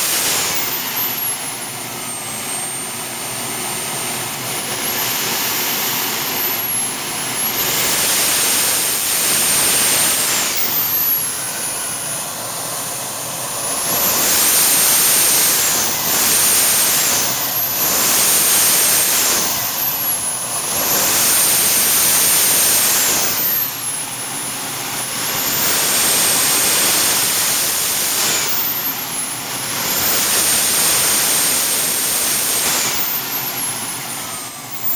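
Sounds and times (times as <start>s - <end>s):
loud rush of exhaust: 0.0s - 34.9s
turbojet engine whine: 0.0s - 34.9s.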